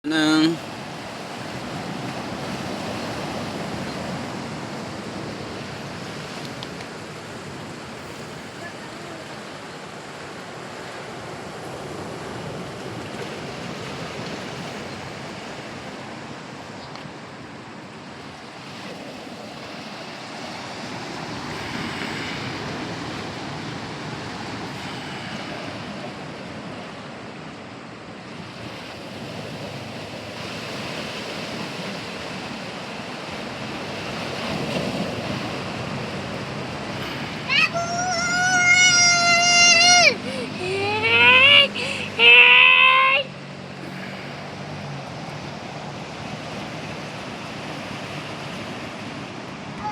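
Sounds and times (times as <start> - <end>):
waves breaking: 0.0 - 49.9.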